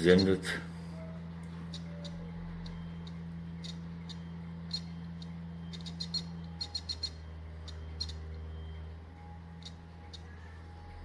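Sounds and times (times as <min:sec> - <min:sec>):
low hum: 0:00.0 - 0:11.0
high-pitched chirps: 0:01.0 - 0:11.0.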